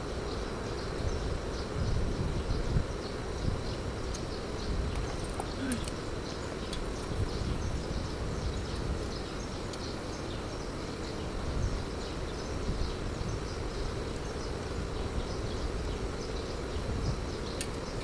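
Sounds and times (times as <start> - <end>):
insect chirps: 0.0 - 18.0.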